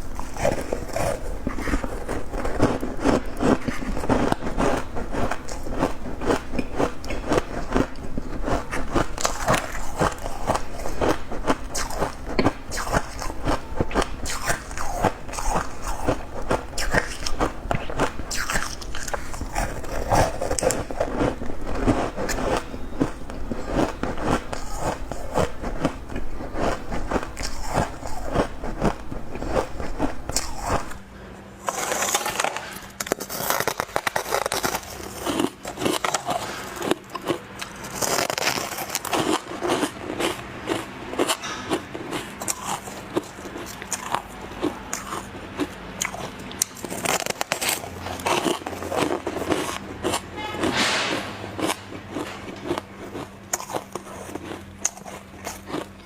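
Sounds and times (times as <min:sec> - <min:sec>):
ice crunching while chewed: 0:00.0 - 0:31.0, 0:31.6 - 0:56.0.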